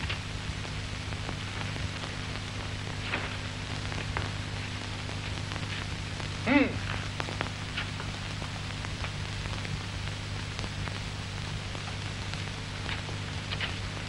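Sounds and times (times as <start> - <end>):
faint crackles: 0.0 - 14.0
film soundtrack hiss and hum: 0.0 - 14.0.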